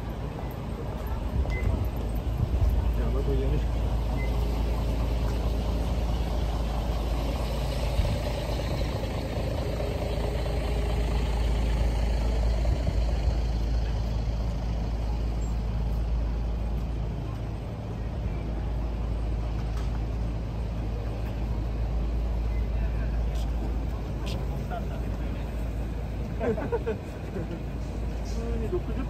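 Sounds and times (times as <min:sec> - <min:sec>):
passing vehicles rumbling: 0:00.0 - 0:29.0.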